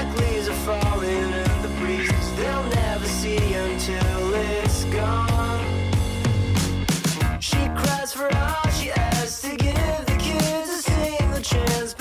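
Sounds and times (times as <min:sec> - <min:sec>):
pop-rock music: 0:00.0 - 0:12.0.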